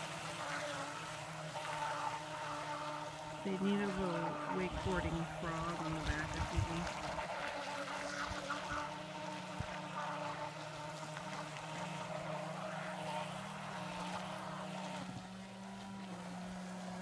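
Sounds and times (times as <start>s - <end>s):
speedboat motors humming: 0.0s - 17.0s.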